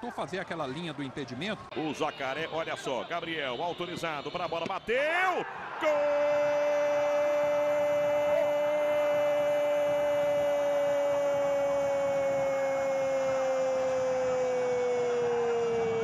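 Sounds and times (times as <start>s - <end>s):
commentator's drawn-out goal cry: 1.8s - 14.7s.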